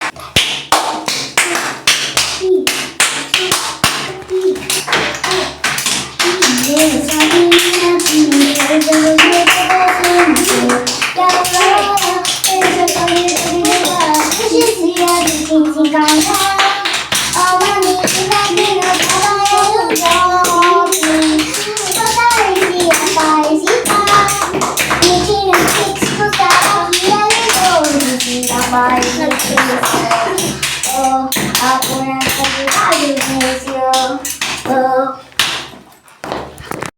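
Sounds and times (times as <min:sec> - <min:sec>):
hands tapping and clapping: 0:00.0 - 0:36.9
young person singing: 0:01.2 - 0:35.6.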